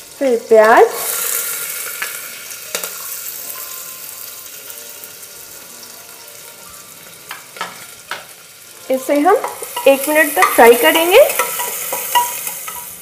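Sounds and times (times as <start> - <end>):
onion frying in hot oil: 0.0 - 13.0.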